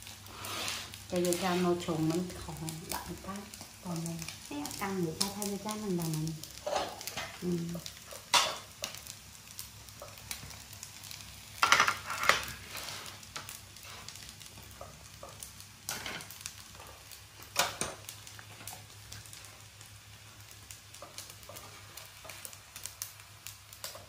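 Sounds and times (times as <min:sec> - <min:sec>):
fritter sizzling in oil: 0:00.0 - 0:24.0.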